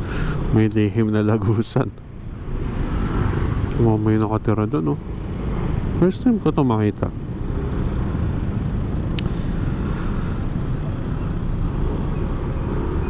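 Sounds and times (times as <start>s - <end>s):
road and traffic noise: 0.0s - 13.0s.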